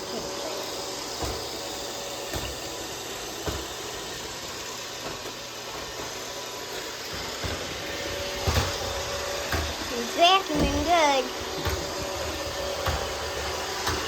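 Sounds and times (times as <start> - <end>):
robot vacuum whirring: 0.0 - 14.0.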